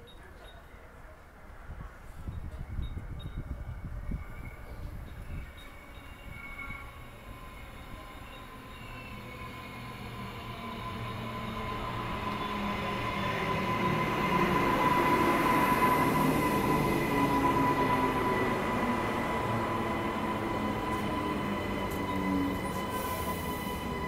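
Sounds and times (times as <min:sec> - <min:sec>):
electric train running rumble: 0:02.7 - 0:24.0.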